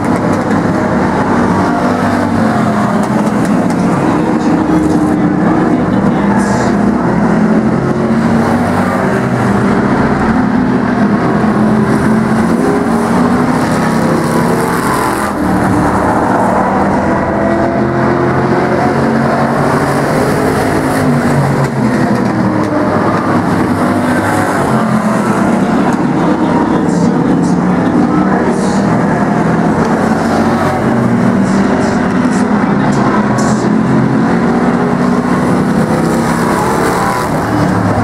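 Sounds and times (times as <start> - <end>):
race car engines: 0.0 - 38.0.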